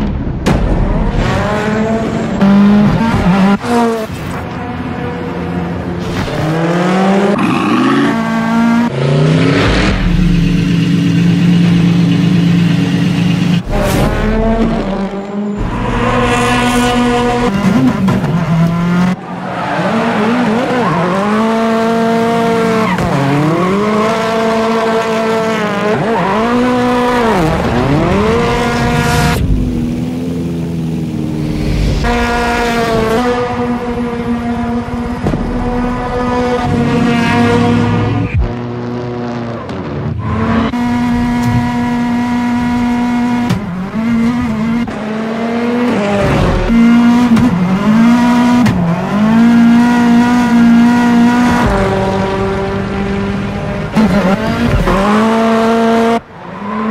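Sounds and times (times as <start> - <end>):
rally car engine revving: 0.0 - 56.9.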